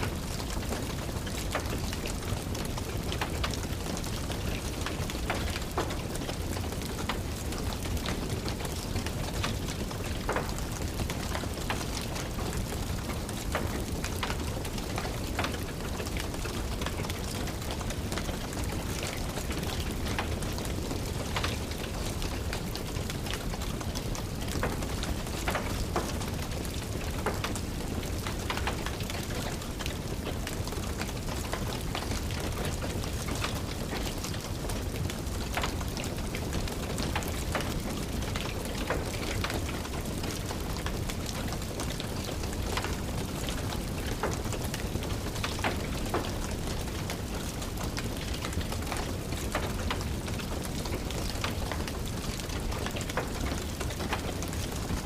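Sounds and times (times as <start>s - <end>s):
rain pattering: 0.0s - 55.0s
wood fire crackling: 0.0s - 55.0s.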